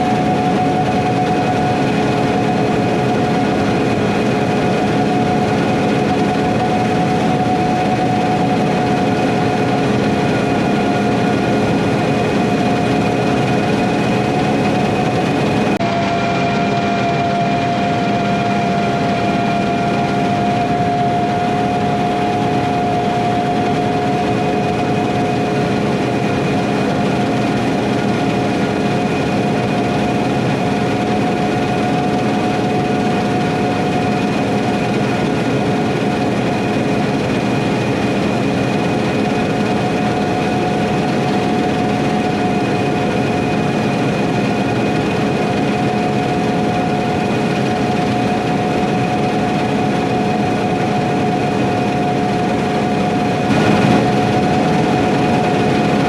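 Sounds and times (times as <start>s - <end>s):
constant machine whine: 0.0s - 56.0s
harvest machinery diesel drone: 0.0s - 56.0s.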